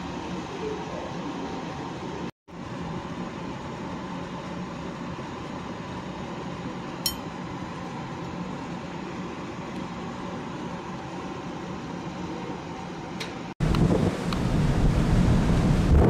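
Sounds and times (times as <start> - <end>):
ship engines and ventilation drone: 0.0 - 16.0.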